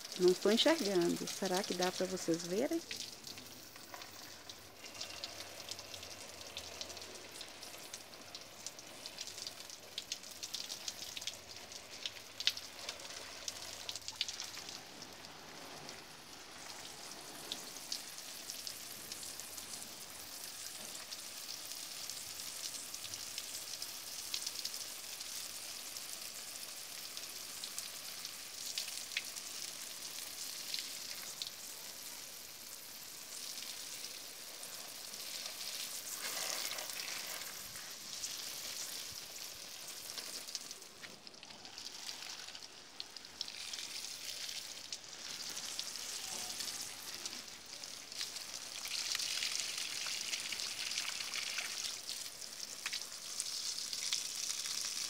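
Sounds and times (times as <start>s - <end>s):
garden hose spraying plants: 0.0s - 55.0s.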